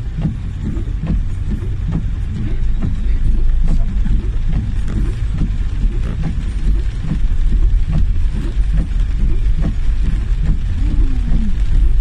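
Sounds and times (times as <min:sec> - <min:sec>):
car cabin rumble: 0:00.0 - 0:12.0
rain tapping on car: 0:00.0 - 0:12.0.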